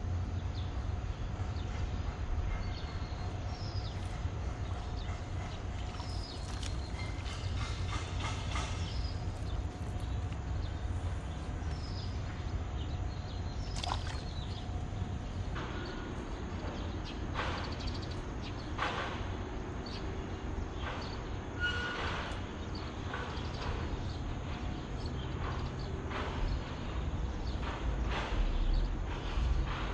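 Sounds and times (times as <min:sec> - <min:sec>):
traffic rumble overhead: 0:00.0 - 0:29.9.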